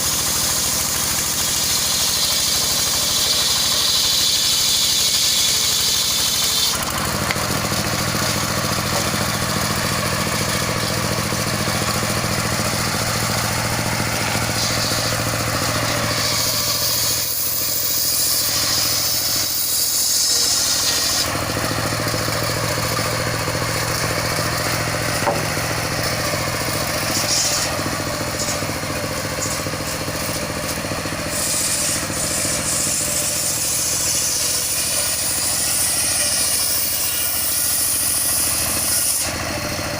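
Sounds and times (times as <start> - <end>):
high-pitched sawing hiss: 0.0 - 6.8, 7.6 - 25.1, 25.7 - 39.4
sawmill engine droning: 0.0 - 39.9.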